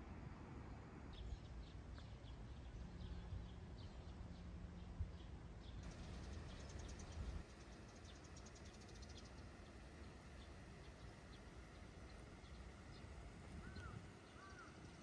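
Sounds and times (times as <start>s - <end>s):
small birds chirping: 1.2s - 15.0s.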